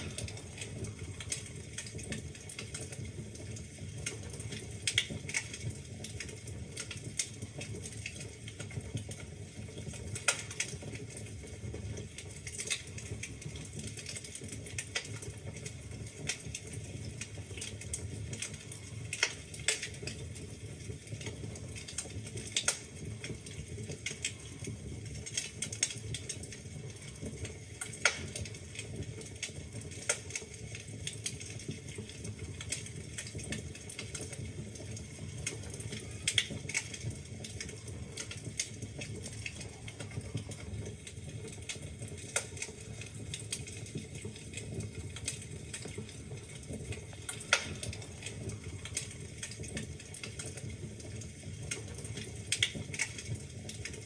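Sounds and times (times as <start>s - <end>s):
fire pops: 0.0s - 54.0s
wood fire crackling: 0.0s - 54.0s.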